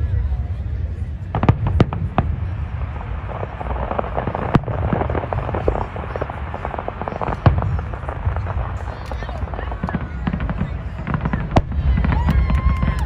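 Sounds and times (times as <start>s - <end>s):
firework bang: 0.0s - 13.0s
firework crackles and pops: 0.0s - 13.0s
steady low rumble: 0.0s - 13.0s.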